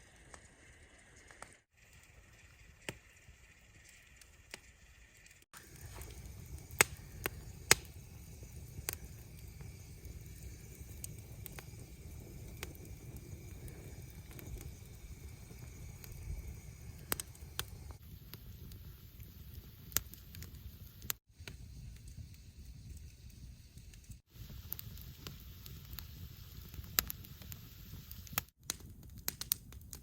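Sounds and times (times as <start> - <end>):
wood fire crackling: 0.2 - 30.0.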